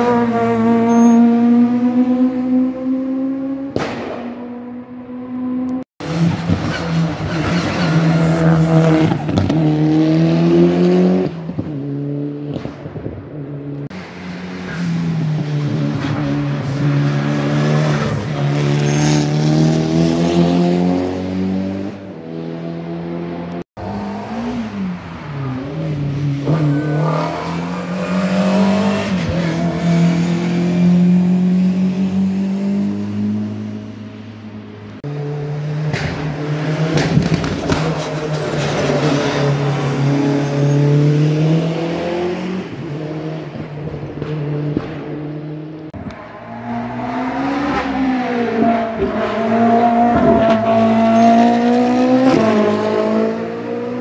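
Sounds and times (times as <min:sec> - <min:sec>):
race car accelerating: 0:00.0 - 0:54.0.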